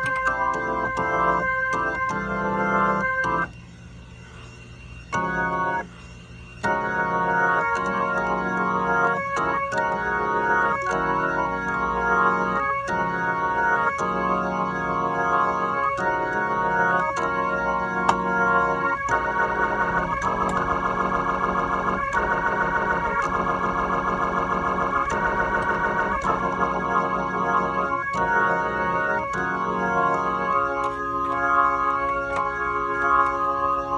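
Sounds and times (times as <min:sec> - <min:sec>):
organ chords through rotary speaker: 0:00.0 - 0:33.9.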